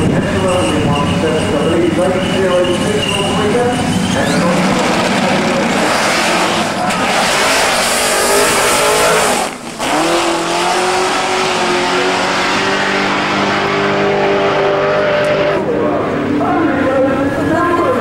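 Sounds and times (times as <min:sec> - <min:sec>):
race car engine at full power: 0:00.0 - 0:18.0.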